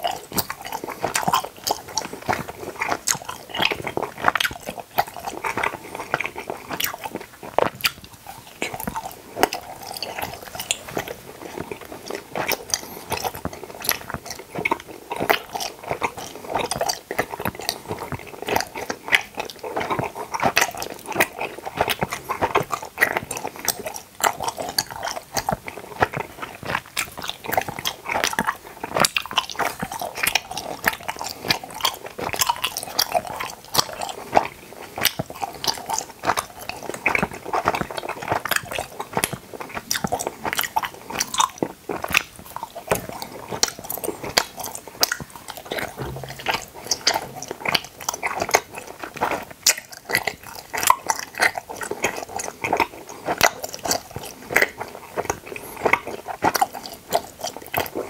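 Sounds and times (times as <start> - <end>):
wet chewing with mouth clicks: 0.0 - 58.0.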